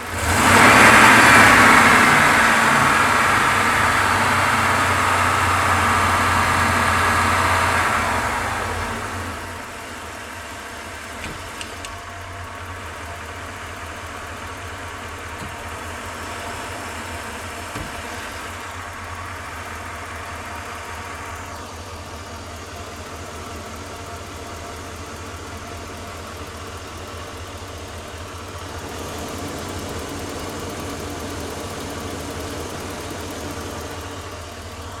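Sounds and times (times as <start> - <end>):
van engine idling: 0.0 - 35.0.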